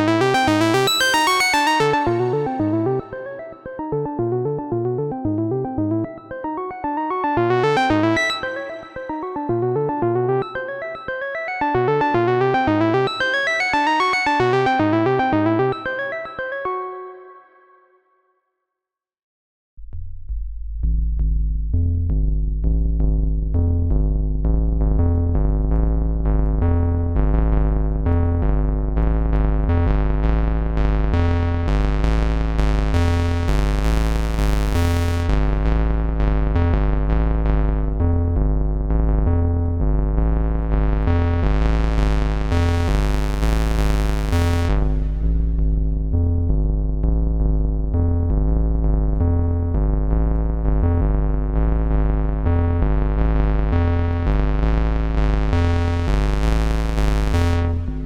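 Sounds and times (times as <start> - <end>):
synthesizer bass pattern: 0.0 - 17.7, 21.6 - 58.0.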